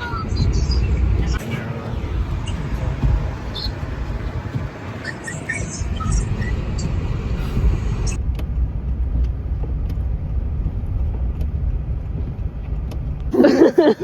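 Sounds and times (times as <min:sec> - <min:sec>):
tyre and road rumble: 0:00.0 - 0:14.0.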